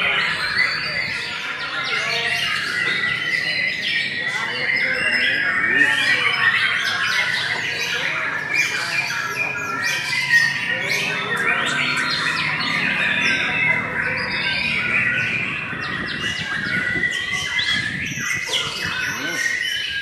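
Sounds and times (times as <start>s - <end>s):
bird singing whistles: 0.0s - 20.0s.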